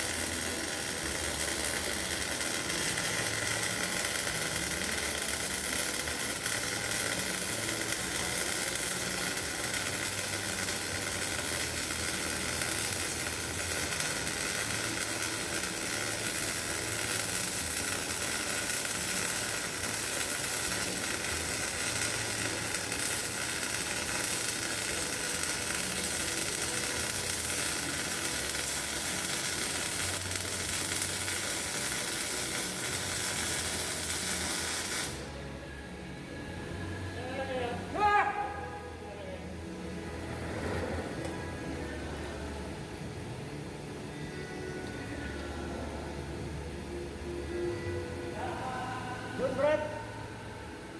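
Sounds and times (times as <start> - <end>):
welding arc crackling sizzle: 0.0 - 35.6, 37.4 - 50.9.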